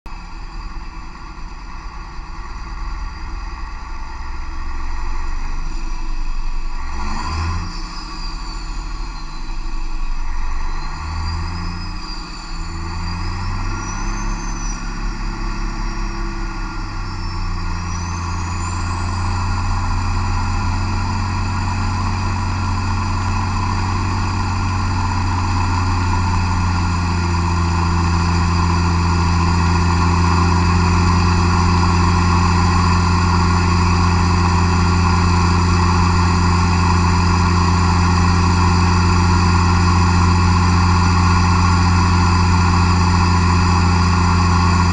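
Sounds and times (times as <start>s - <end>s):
diesel engine droning: 0.1s - 44.9s.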